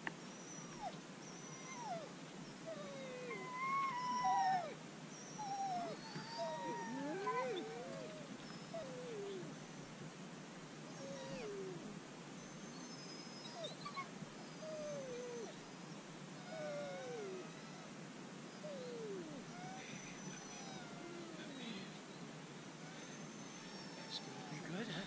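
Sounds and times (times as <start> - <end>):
dogs whining: 0.2 - 9.8, 10.9 - 15.7, 16.4 - 22.1, 22.8 - 25.0.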